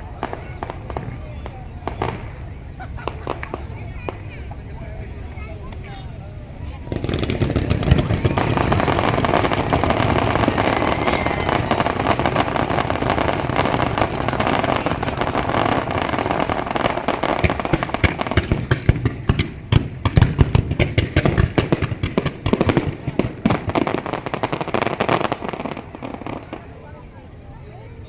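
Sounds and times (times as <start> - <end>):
fireworks crackling and booming: 0.0 - 28.0.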